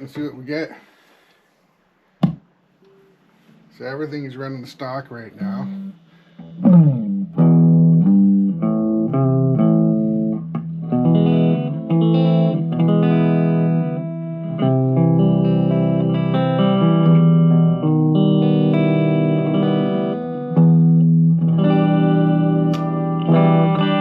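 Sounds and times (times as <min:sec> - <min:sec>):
clean electric guitar playing: 0:03.4 - 0:24.0.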